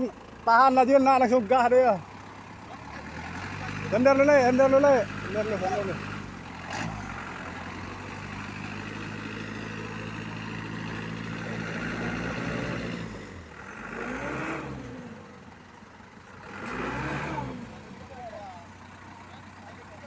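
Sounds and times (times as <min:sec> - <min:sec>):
truck diesel engine revving: 0:00.0 - 0:20.0.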